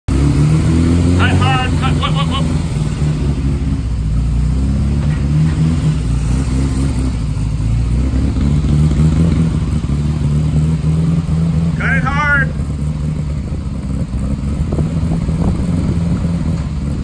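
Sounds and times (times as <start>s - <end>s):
race car engine running: 0.1s - 17.0s.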